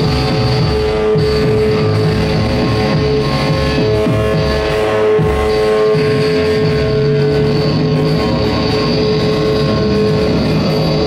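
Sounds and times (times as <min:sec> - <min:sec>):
loud electronic drone: 0:00.0 - 0:11.0.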